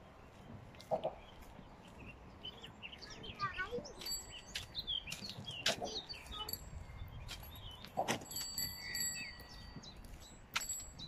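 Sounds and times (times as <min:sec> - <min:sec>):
small birds chirping: 0:00.0 - 0:11.0
wind noise on microphone: 0:01.6 - 0:11.0.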